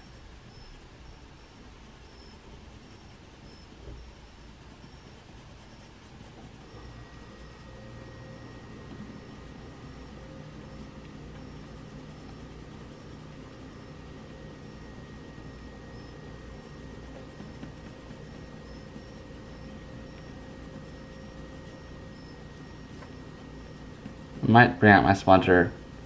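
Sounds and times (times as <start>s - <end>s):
pencil scratching on paper: 0.0s - 0.8s, 1.4s - 26.0s
faint steady hum: 0.0s - 26.0s.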